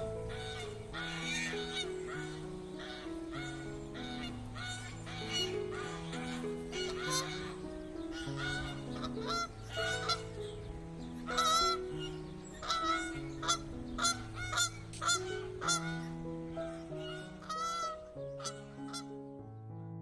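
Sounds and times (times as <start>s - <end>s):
honking bird calls: 0.0s - 19.5s
music of held low notes: 0.0s - 20.0s.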